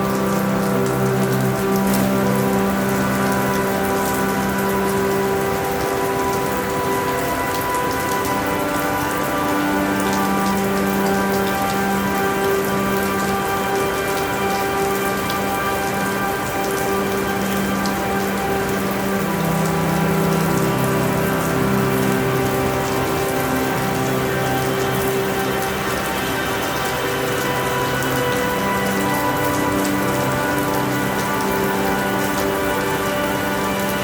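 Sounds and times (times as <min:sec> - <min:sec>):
steady rainfall: 0:00.0 - 0:34.0.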